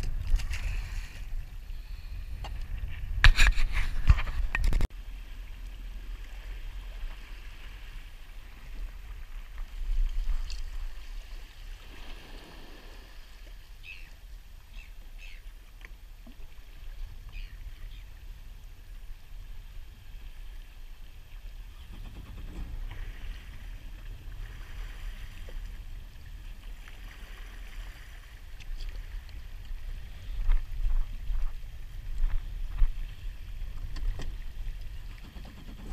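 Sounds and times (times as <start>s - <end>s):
wind rumble on microphone: 0.0s - 13.6s, 16.4s - 35.9s
water sloshing against hull: 0.0s - 35.9s.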